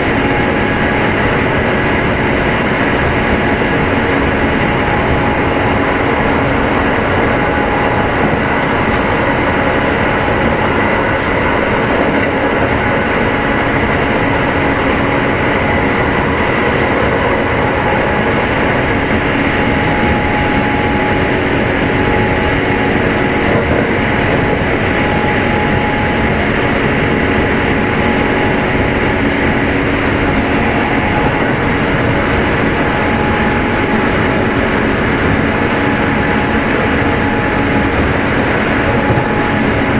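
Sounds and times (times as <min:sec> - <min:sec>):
traction motors humming: 0:00.0 - 0:39.9
wheels rumbling on rails: 0:00.0 - 0:39.9.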